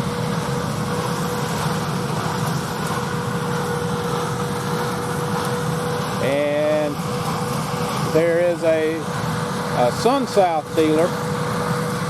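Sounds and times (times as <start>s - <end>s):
engine humming: 0.0s - 12.0s
thin whine: 0.0s - 12.0s.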